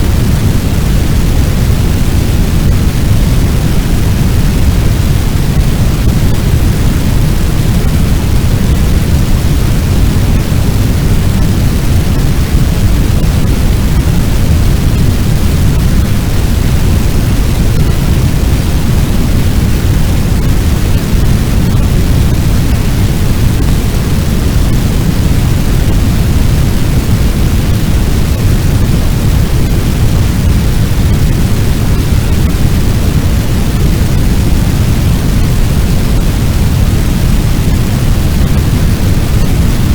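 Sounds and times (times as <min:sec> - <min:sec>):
large fire rumbling: 0:00.0 - 0:39.9.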